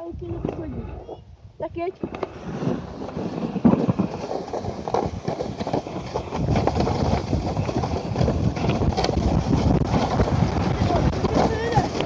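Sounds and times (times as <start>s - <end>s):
wind rumbling on microphone: 0.0s - 12.0s
plastic sled scraping on snow: 0.3s - 12.0s.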